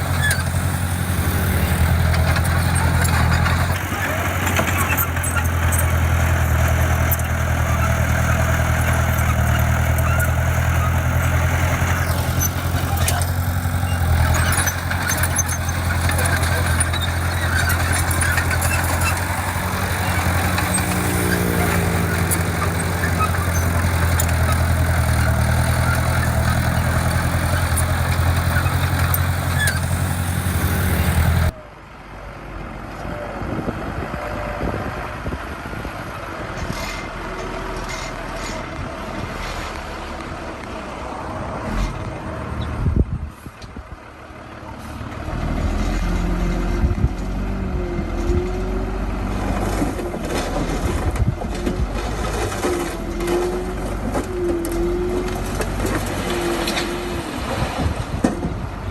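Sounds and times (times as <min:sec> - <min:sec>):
heavy machinery diesel engine: 0:00.0 - 0:58.9.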